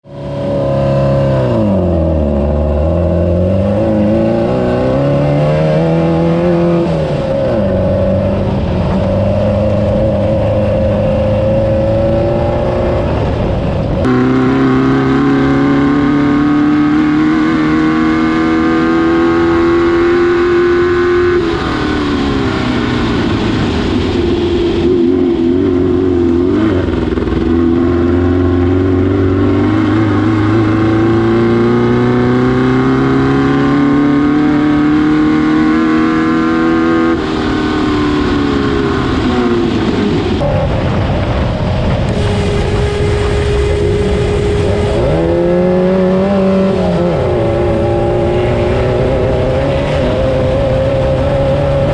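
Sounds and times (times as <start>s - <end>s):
racing buggy engine revving: 0.0s - 51.9s.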